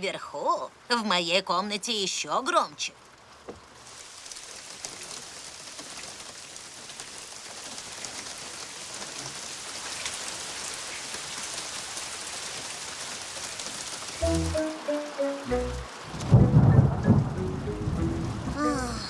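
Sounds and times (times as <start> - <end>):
heavy rain pouring: 3.1 - 19.0.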